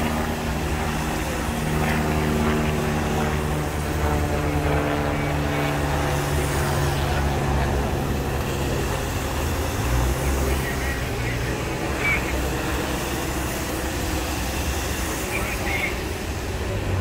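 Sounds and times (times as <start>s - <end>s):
aircraft drone overhead: 0.0s - 17.0s.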